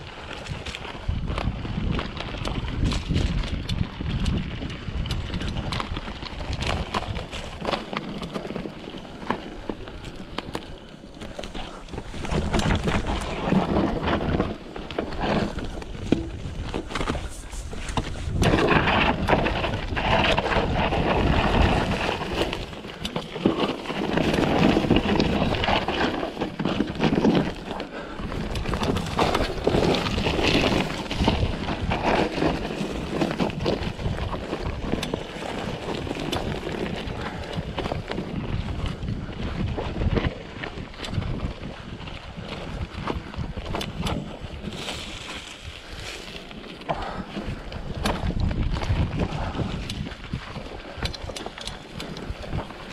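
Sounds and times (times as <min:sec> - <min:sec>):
wind on microphone: 0:00.0 - 0:08.1, 0:11.3 - 0:52.9
bike rattling over bumps: 0:00.0 - 0:52.9
tyres rolling over dirt and leaves: 0:00.0 - 0:52.9.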